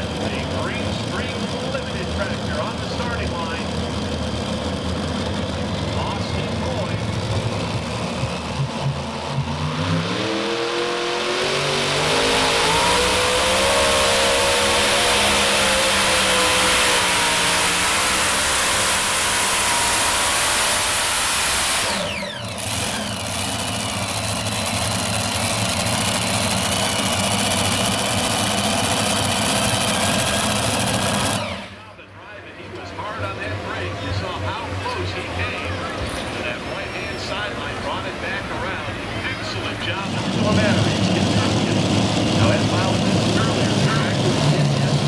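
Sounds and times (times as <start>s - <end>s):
pulling tractor engine revving: 0.0s - 45.0s.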